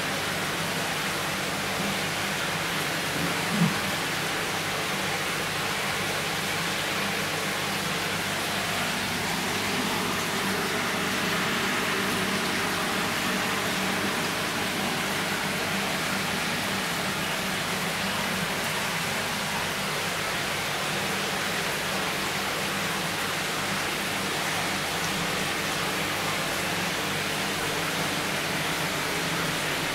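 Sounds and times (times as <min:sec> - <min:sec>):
running water rushing: 0:00.0 - 0:29.9.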